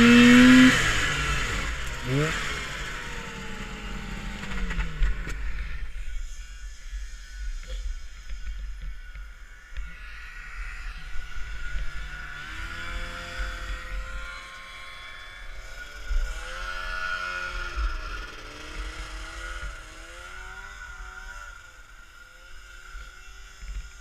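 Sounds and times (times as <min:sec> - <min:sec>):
snowmobile engines revving: 0:00.0 - 0:08.3, 0:09.4 - 0:24.0.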